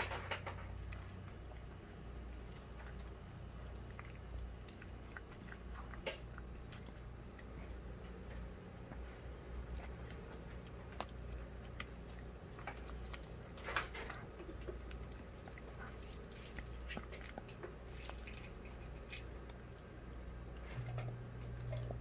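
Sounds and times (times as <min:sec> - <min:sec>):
dog eating wet smacking: 0:00.0 - 0:22.0.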